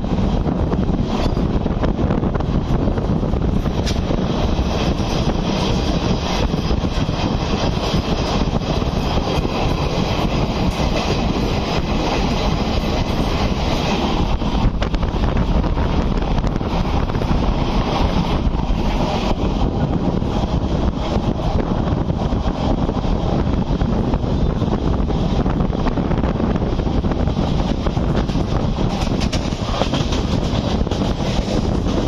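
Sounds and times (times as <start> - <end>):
train wheels rumbling and rattling: 0.0 - 32.0
wind buffeting microphone: 0.0 - 32.0.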